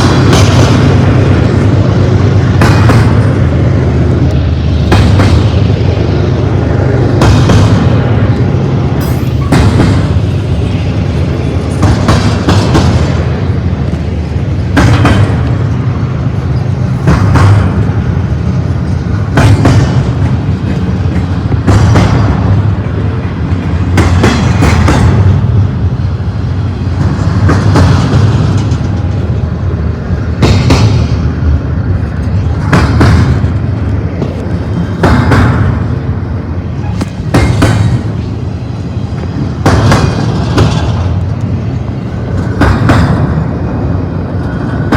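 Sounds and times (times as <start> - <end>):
freight train rumbling: 0.0 - 44.9
train wheels clattering: 0.0 - 44.9.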